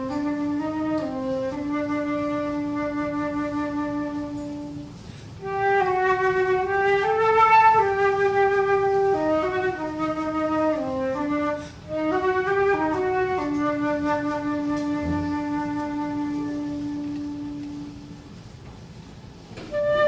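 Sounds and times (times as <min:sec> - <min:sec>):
solo flute melody: 0:00.0 - 0:18.4, 0:19.6 - 0:20.0.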